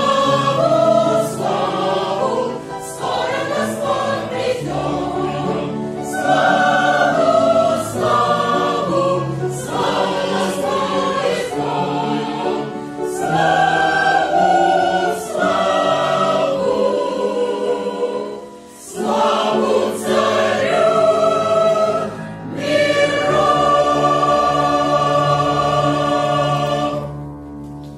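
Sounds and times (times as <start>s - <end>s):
church choir singing a hymn: 0.0s - 27.5s.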